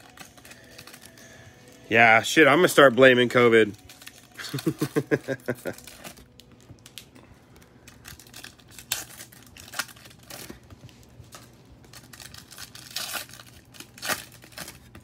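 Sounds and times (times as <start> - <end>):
foil ripping: 0.0 - 15.0
foil wrapper crinkling: 0.0 - 15.0.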